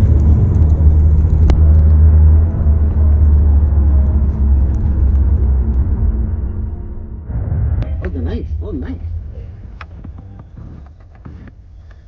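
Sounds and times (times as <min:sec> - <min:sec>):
engine and tyres rumbling: 0:00.0 - 0:12.0.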